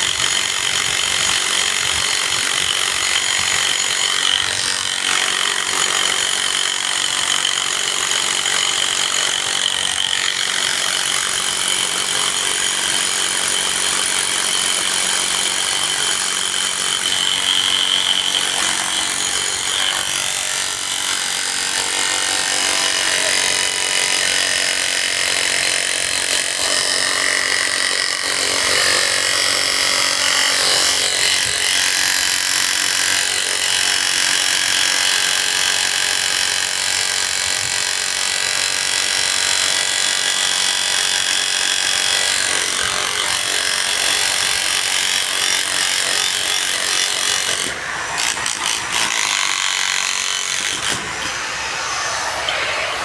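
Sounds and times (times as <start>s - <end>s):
construction machinery and power tools: 0.0s - 53.0s.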